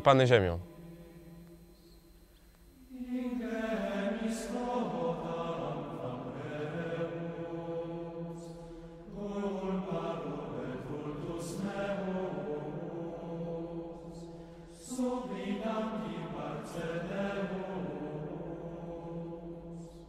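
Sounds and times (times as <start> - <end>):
chanted vocal music: 2.7 - 20.0.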